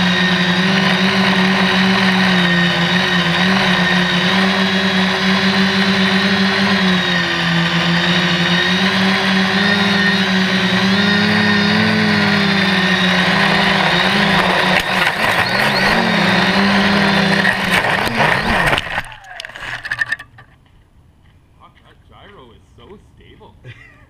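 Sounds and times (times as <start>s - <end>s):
quadcopter propellers droning: 0.0s - 20.0s.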